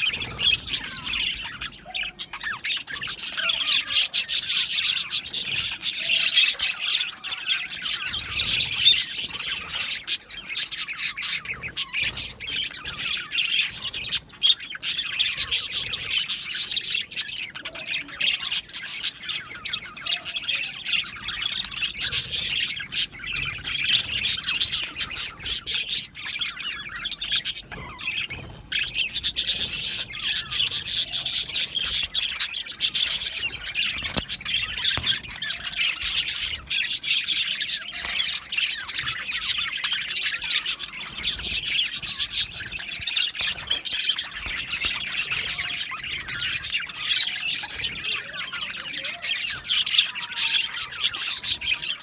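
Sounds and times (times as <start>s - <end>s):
budgies chattering: 0.0s - 52.0s.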